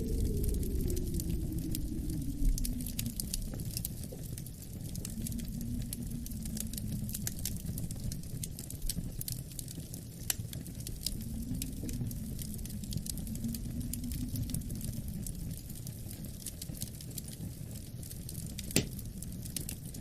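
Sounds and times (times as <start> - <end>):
low wind howling: 0.0 - 20.0
wood fire crackling: 0.0 - 20.0.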